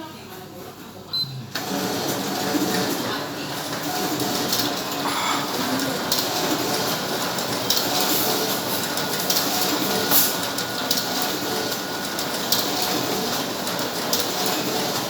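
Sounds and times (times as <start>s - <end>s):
copier paper feeding and rollers: 1.5s - 15.0s.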